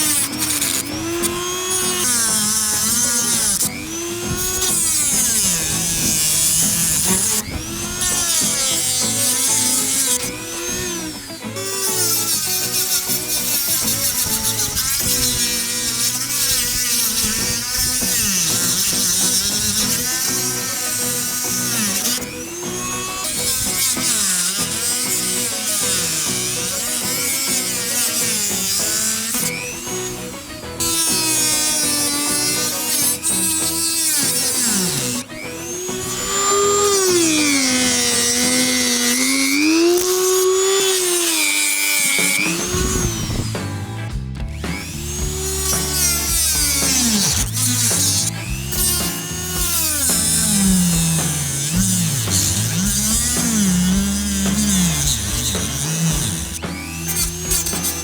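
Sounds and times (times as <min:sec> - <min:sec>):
background music: 0:00.0 - 0:58.0
rotary tool cutting plastic: 0:00.0 - 0:58.0.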